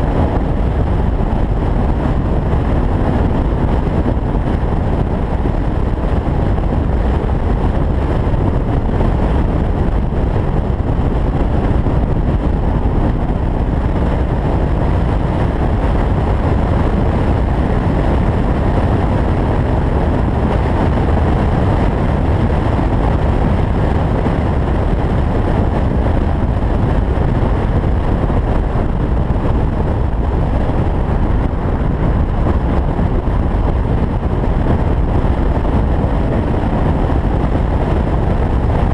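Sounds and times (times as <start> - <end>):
car road noise: 0.0 - 38.9
wind rushing on microphone: 0.0 - 38.9.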